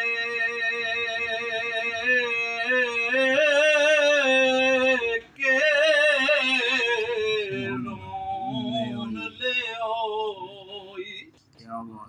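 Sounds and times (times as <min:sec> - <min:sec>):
man singing with vibrato: 0:00.0 - 0:11.4.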